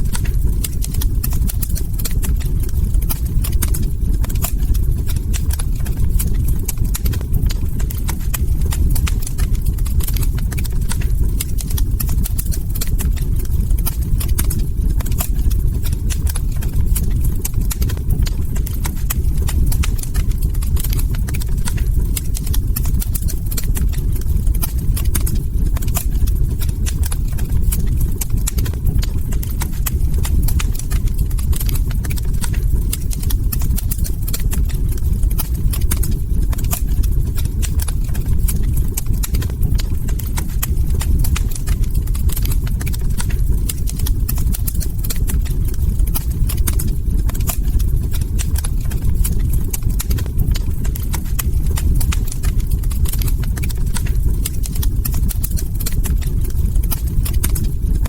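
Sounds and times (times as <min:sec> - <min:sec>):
log fire crackling: 0:00.0 - 0:58.0.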